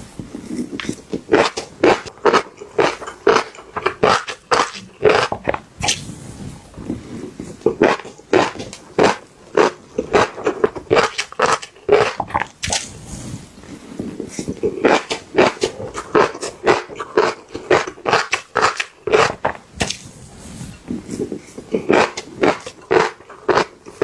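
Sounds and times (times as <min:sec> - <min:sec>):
crunchy chewing: 0:00.0 - 0:06.1, 0:06.7 - 0:24.0.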